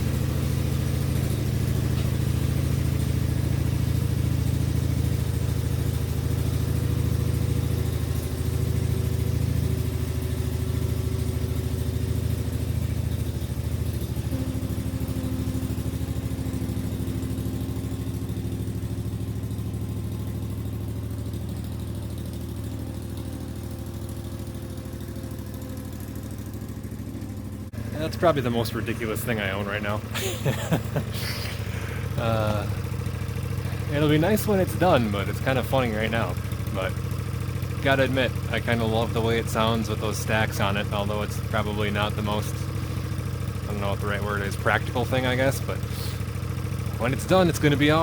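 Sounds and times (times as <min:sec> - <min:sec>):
engine idling with open exhaust: 0:00.0 - 0:48.0.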